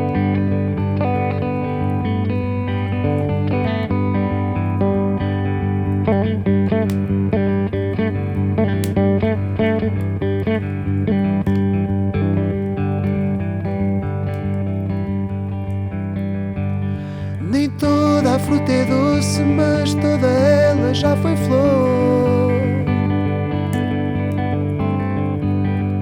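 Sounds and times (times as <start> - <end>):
plucked guitar with bent notes: 0.0 - 26.0.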